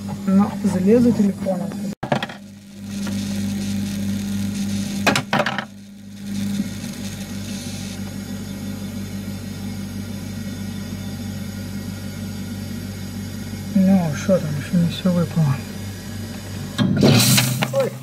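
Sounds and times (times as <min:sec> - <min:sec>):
ice maker humming: 0:00.0 - 0:18.0.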